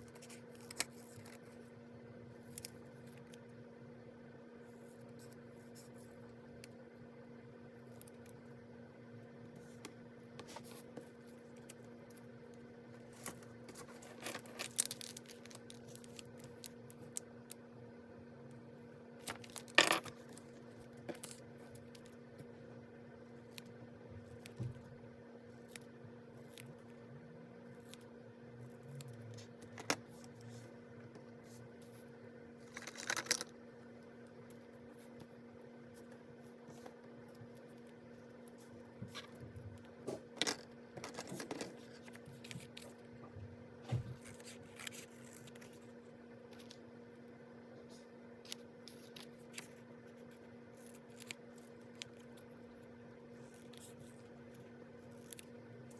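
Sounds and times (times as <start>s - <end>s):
faint steady hum: 0.0s - 55.9s.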